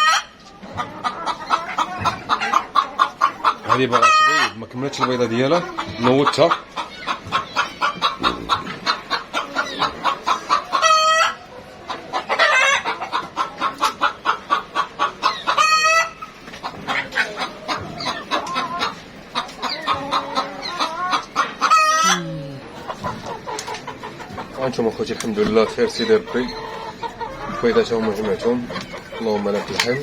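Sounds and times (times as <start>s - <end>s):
hens cackling: 0.0s - 30.0s.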